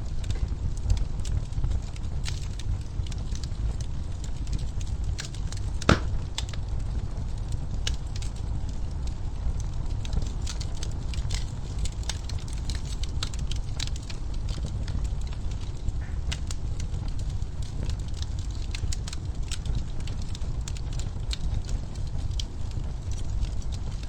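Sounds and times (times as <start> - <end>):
log fire crackling and popping: 0.0 - 24.0
low rumble of flames: 0.0 - 24.0.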